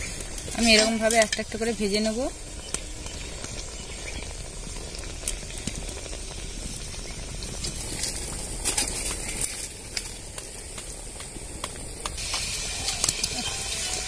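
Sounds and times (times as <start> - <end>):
batter deep-frying in oil: 0.0 - 14.0
oil popping: 0.0 - 14.0.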